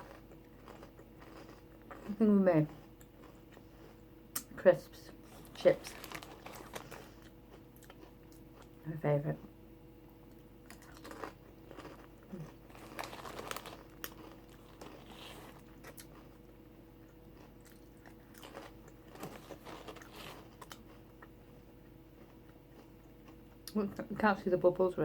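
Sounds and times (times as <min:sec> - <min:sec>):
crunching and chewing crisps: 0:00.0 - 0:04.5, 0:05.1 - 0:08.9, 0:10.1 - 0:23.8.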